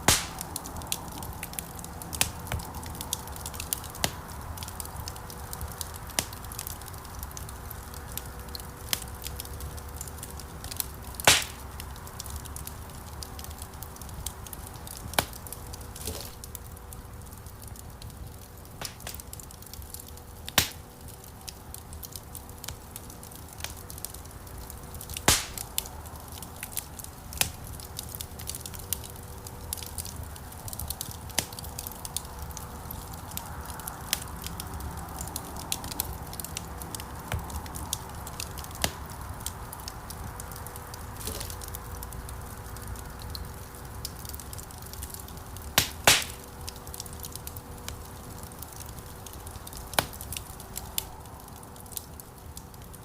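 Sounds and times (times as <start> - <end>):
fire popping and snapping: 0.0 - 53.0
low rush of flames: 0.0 - 53.0.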